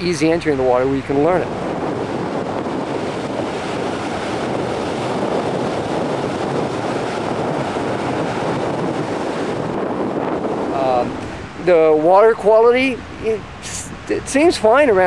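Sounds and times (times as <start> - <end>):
small waves washing: 0.0 - 14.2
wind buffeting microphone: 0.0 - 15.0
wind rushing: 0.0 - 15.0.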